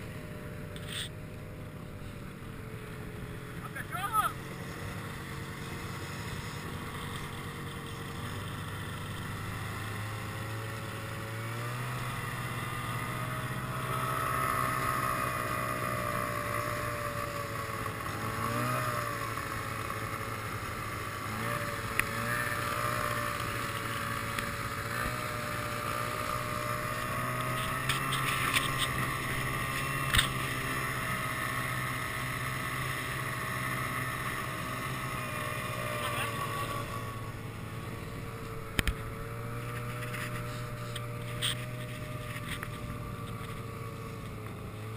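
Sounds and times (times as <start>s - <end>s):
snowmobile engine running: 0.0s - 44.9s.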